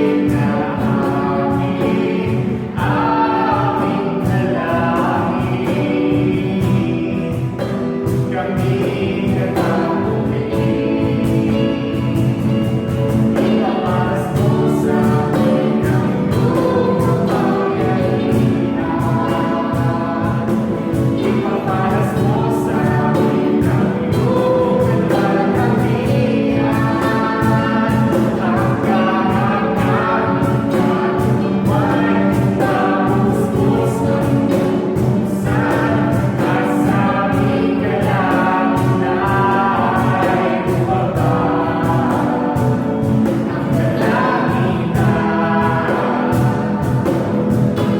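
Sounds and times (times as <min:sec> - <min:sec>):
band with steady beat: 0:00.0 - 0:47.9
voices singing gospel song: 0:00.0 - 0:47.9.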